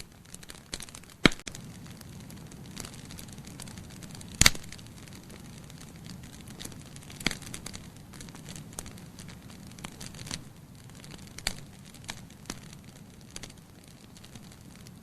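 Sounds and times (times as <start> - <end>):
hiss of flames: 0.0 - 15.0
logs crackling and popping: 0.0 - 15.0.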